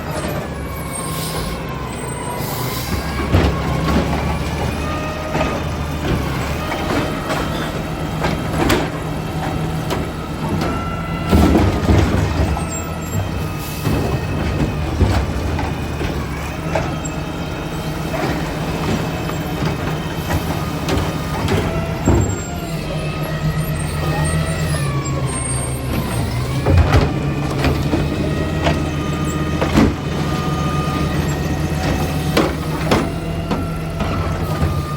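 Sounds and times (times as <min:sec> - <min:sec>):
hydraulic packer working: 0:00.0 - 0:34.9
truck diesel engine under load: 0:00.0 - 0:34.9.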